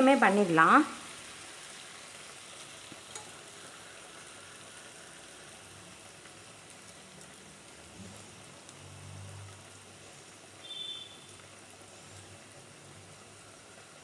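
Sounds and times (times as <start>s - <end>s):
oil sizzling while deep-frying: 0.0s - 14.0s.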